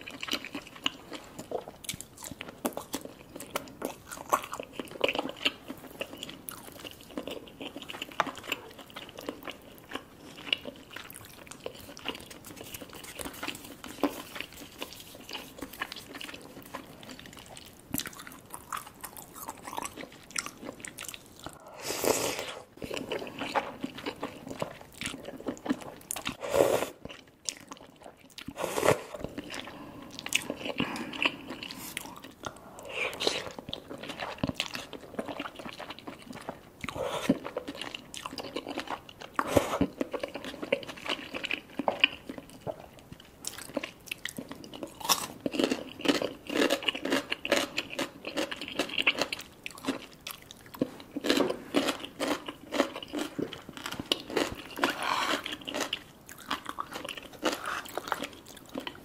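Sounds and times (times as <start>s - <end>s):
person slurping and chewing noodles: 0.0s - 59.0s.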